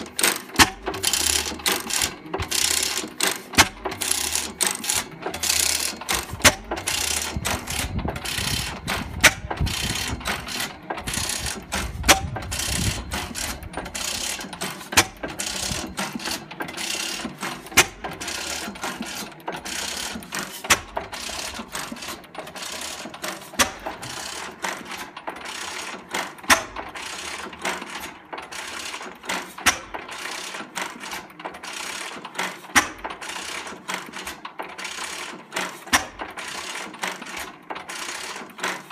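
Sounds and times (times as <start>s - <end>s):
stationary gas engine clattering: 0.0s - 38.9s.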